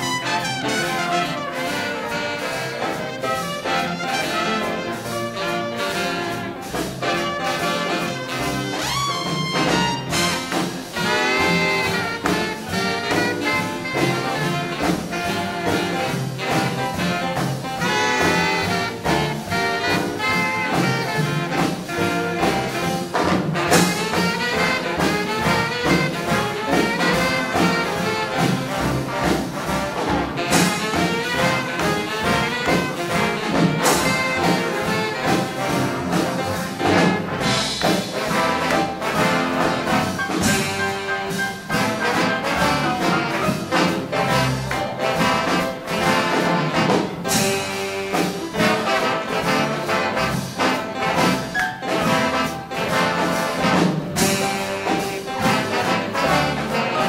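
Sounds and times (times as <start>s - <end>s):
big band swing jazz: 0.0s - 57.0s.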